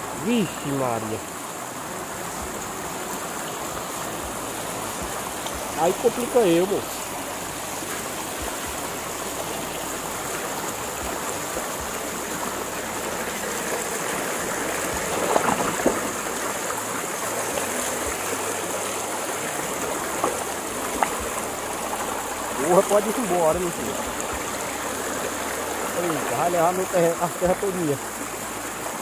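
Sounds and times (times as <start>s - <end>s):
muddy water rushing down a channel: 0.0s - 29.0s.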